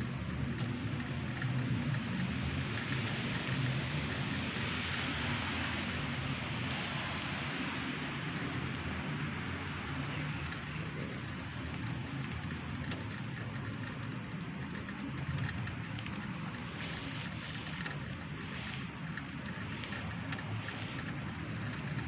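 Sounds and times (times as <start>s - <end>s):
faint ticks: 0.0s - 6.1s, 6.7s - 22.0s.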